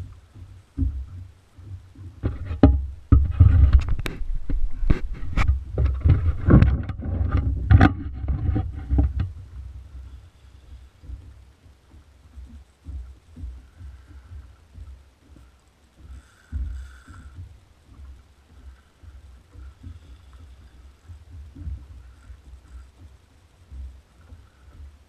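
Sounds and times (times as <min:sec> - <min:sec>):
knocks and clicks on a boat: 0:00.0 - 0:25.0.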